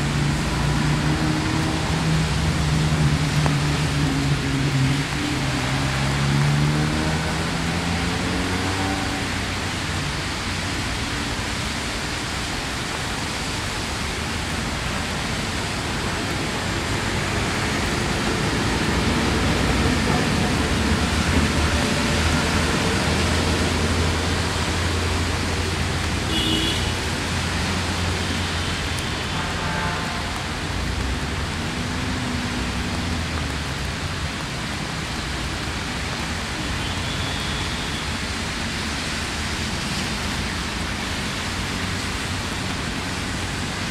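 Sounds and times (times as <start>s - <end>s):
steady rain on wet ground: 0.0s - 43.9s.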